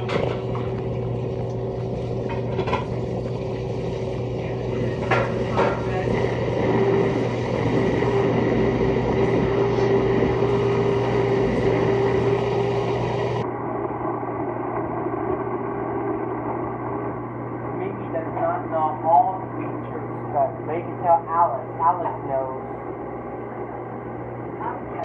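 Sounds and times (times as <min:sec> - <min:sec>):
dishwasher motor hum: 0:00.0 - 0:25.0.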